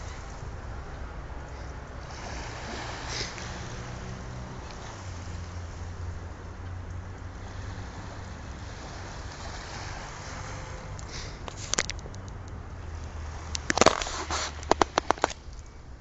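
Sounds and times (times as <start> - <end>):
small waves washing on sand: 0.0 - 12.0, 12.7 - 15.6
wind rumbling on microphone: 0.0 - 16.0.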